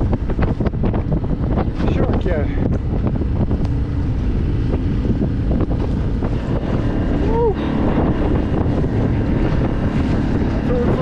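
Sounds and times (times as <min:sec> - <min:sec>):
boat motor running: 0:00.0 - 0:11.0
water rushing past hull: 0:00.0 - 0:11.0
wind buffeting microphone: 0:00.0 - 0:11.0.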